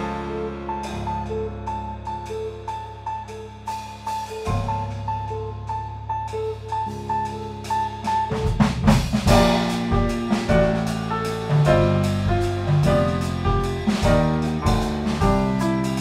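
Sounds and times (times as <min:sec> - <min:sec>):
drum kit: 0:00.0 - 0:16.0
electric bass: 0:00.0 - 0:16.0
piano: 0:00.0 - 0:16.0.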